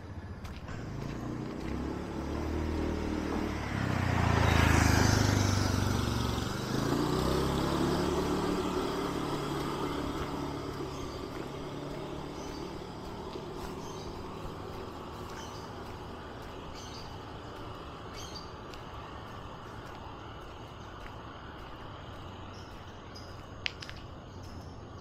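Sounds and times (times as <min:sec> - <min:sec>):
motor vehicle passing: 0:00.0 - 0:23.8
engine running: 0:00.0 - 0:24.6.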